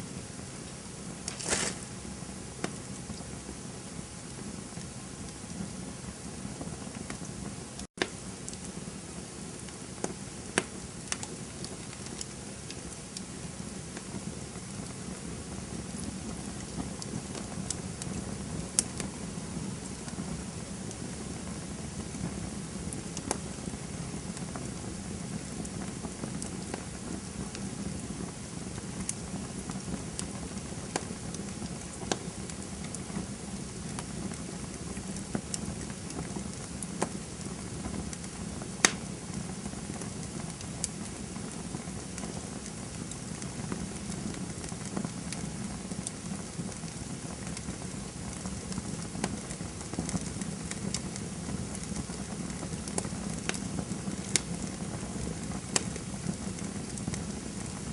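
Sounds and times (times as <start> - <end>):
campfire flames rushing: 0.0 - 57.9
fire crackling and popping: 0.0 - 57.9.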